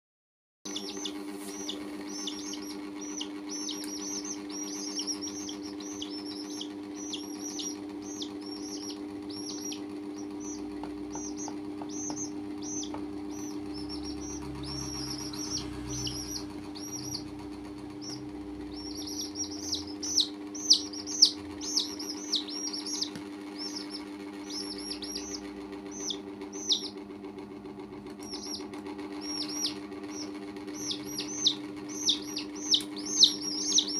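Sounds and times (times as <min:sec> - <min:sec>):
chicks peeping: 0:00.7 - 0:33.9
steady low hum: 0:00.7 - 0:33.9.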